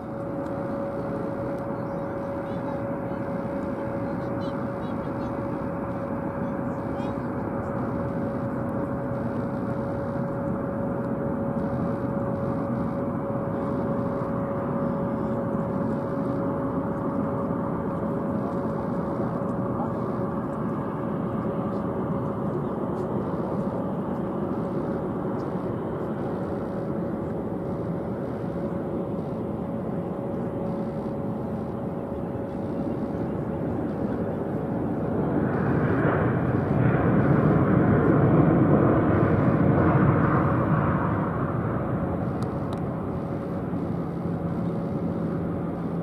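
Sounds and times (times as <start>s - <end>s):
jet airliner engines rushing: 0.0s - 46.0s.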